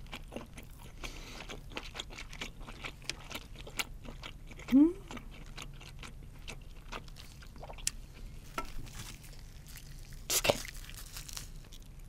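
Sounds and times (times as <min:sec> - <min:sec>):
chewing fried shrimp: 0:00.0 - 0:12.0.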